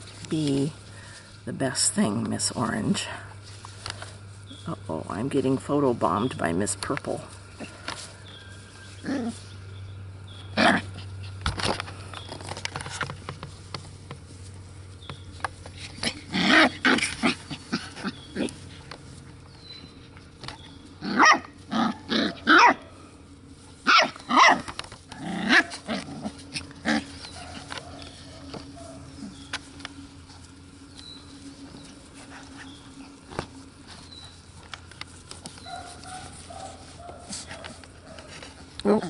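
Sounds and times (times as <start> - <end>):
puppies barking and growling: 7.3 - 39.0.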